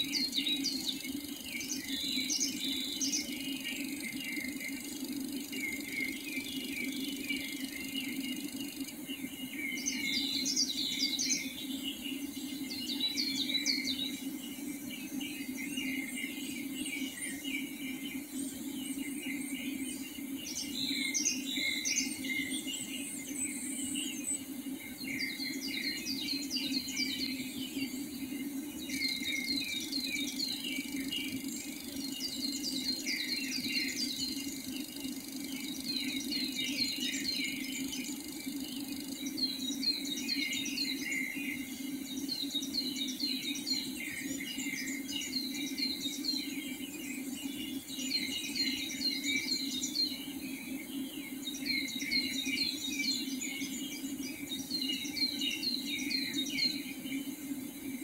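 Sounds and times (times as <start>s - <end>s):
birds singing: 0.0s - 58.0s
steady low hum: 0.0s - 58.0s.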